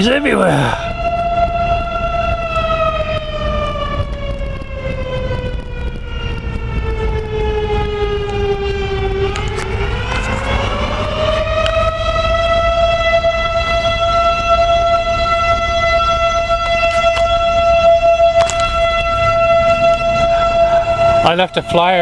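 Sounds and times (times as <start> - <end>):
warning siren wailing: 0.0 - 22.0.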